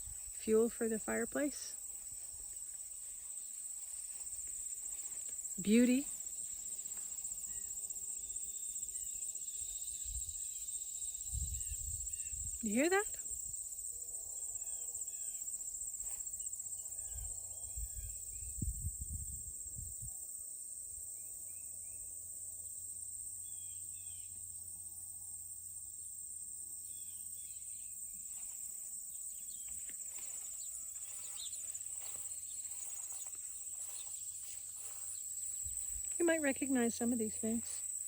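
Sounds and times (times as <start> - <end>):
crickets and katydids trilling: 1.7 - 24.7, 26.3 - 38.0.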